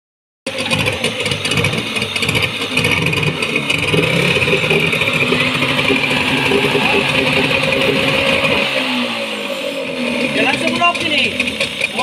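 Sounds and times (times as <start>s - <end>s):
outboard motor running: 0.4s - 12.0s
propeller churning water: 0.5s - 12.0s.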